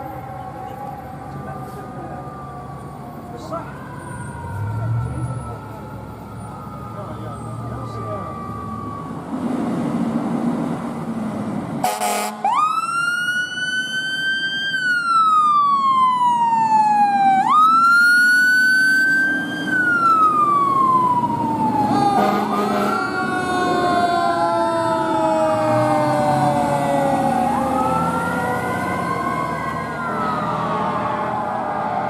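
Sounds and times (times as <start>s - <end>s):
second siren: 0.0s - 9.3s, 11.8s - 32.0s
loud siren blast: 0.0s - 9.4s, 11.8s - 32.0s
emergency siren wailing: 0.0s - 32.0s.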